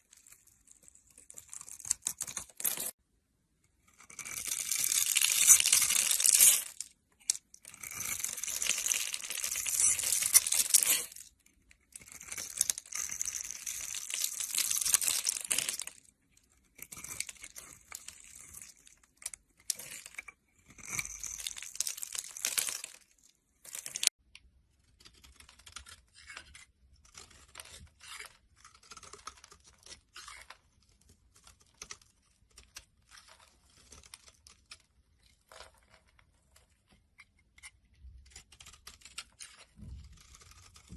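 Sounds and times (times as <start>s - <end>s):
blade cutting soap: 3.6s - 40.9s.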